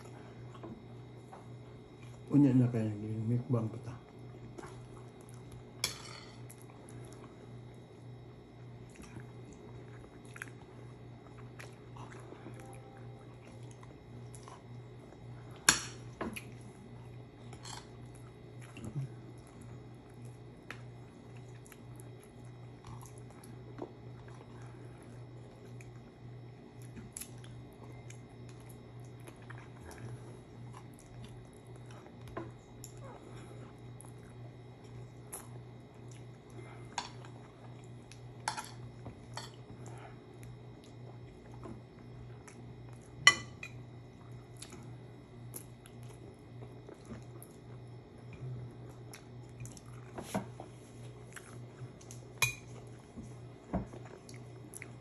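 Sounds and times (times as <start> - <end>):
steady low hum: 0.0 - 55.0
people chewing food: 4.0 - 5.8, 6.4 - 55.0.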